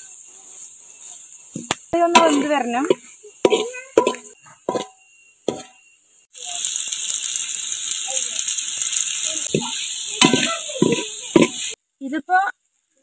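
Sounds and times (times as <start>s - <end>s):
food sizzling in a metal pot: 0.0s - 13.0s.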